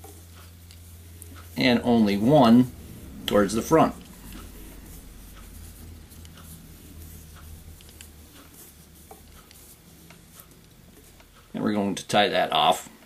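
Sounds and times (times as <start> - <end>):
hands rustling thread: 0.0 - 11.6
low steady hum: 0.0 - 13.0.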